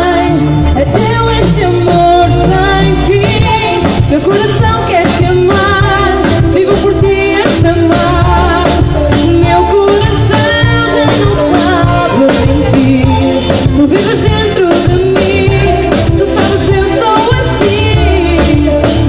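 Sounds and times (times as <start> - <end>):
drum kit beats: 0.0 - 19.0
live band: 0.0 - 19.0
woman singing into a microphone: 0.0 - 19.0.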